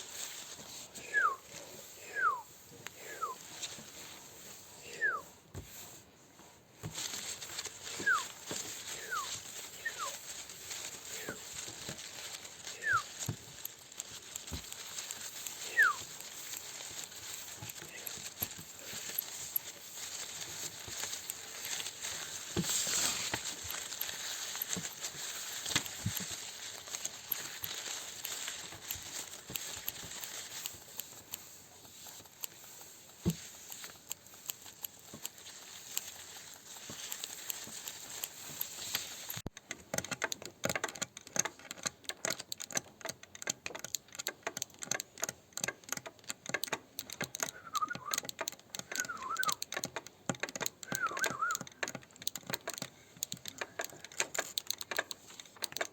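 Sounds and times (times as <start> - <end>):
crackling crinkling taps and rustles: 0.0 - 55.9.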